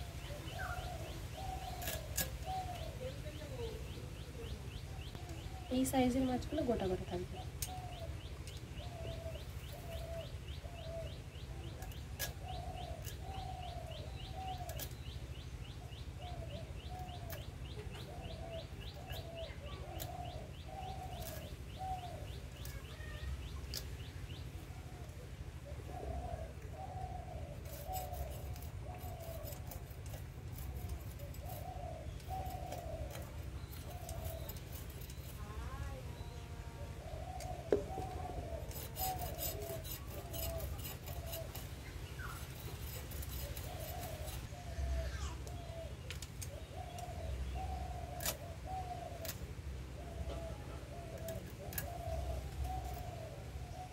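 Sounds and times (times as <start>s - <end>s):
high ticking bird chirp: 0.0s - 24.6s, 26.4s - 53.9s
birds cooing: 0.0s - 53.9s.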